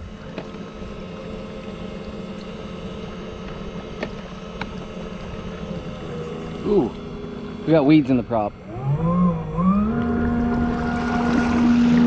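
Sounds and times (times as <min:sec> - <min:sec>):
electric motor humming: 0:00.0 - 0:12.0
water noise: 0:00.0 - 0:12.0.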